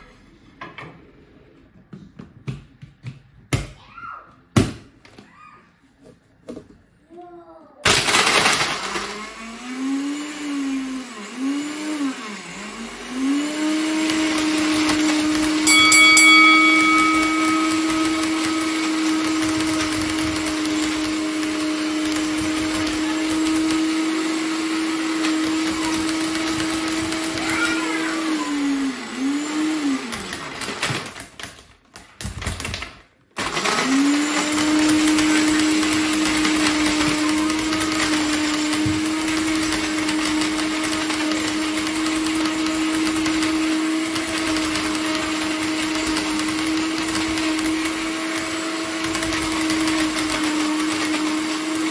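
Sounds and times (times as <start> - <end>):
blender crushing ice: 7.8 - 51.9.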